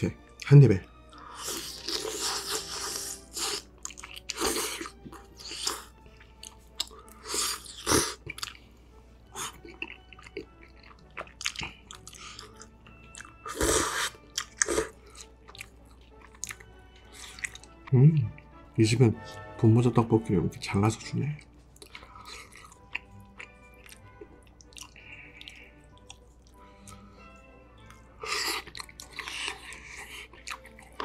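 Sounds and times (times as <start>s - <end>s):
wet chewing and mouth smacks: 1.0s - 8.6s, 9.3s - 18.6s, 21.4s - 31.0s.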